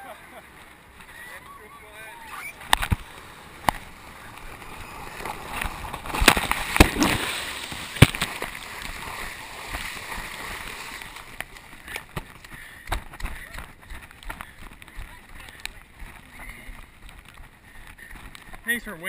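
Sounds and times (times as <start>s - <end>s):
muddy water splashing: 0.2s - 18.6s.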